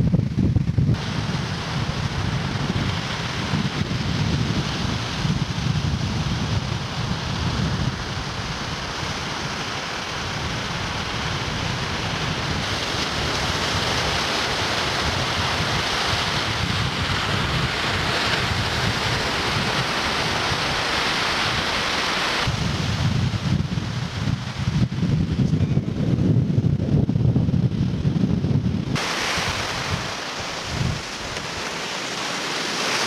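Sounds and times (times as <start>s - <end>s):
waves breaking on shore: 0.0s - 26.2s, 27.6s - 33.0s
wind buffeting microphone: 0.0s - 33.0s.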